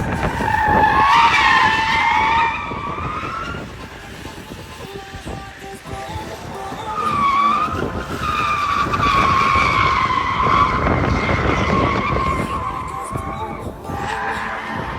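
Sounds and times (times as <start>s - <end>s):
car tyres squealing: 0.0s - 14.9s
rumbling vehicle noise: 0.0s - 14.9s.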